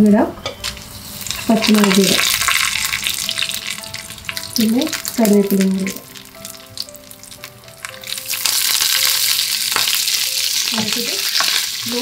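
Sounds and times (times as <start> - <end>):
leaves sizzling in hot oil: 0.6 - 12.0
spices crackling in oil: 0.6 - 12.0.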